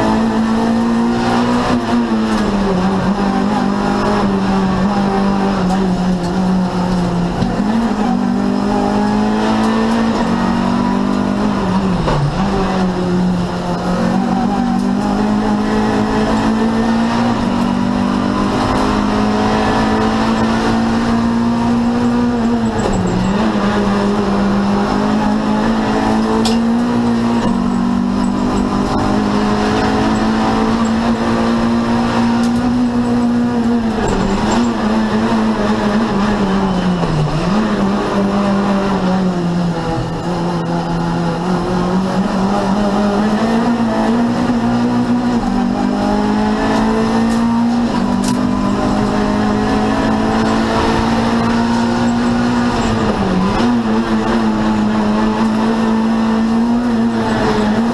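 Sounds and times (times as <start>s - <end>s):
race car engine at high revs: 0.0s - 57.9s.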